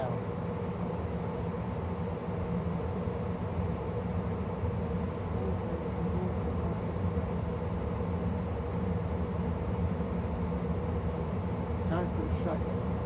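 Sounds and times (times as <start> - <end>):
gas furnace humming: 0.0 - 13.0.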